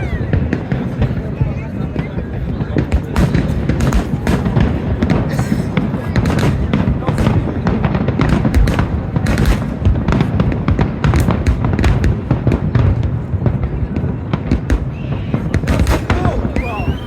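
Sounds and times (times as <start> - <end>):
fireworks bursting and cracking: 0.0 - 17.0.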